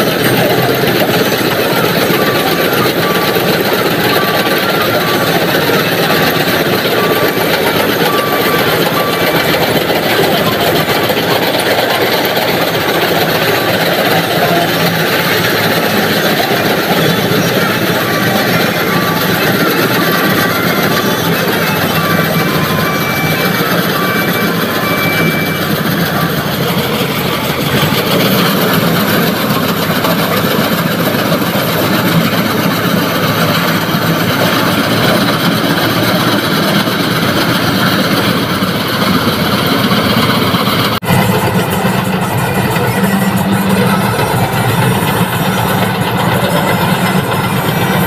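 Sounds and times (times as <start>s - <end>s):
combine harvester engine running: 0.0s - 48.0s.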